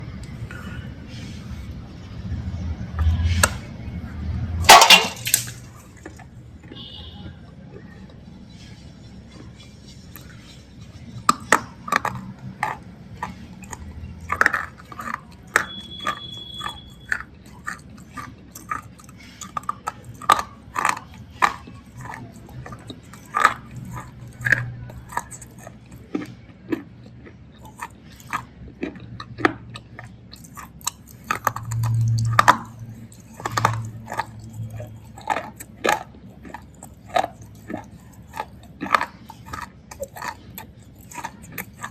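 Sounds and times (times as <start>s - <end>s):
dull chewing: 0.0s - 41.9s.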